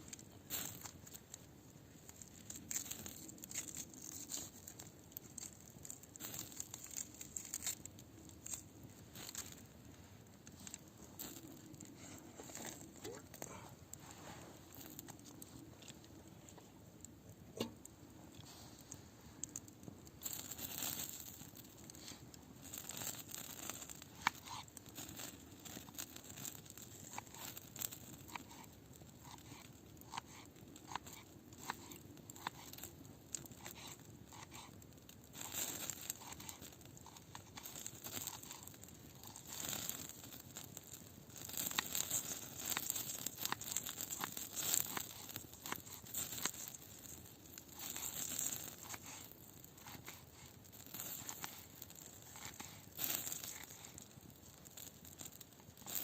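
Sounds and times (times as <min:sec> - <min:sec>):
crinkling and rustling: 0:00.0 - 0:56.0.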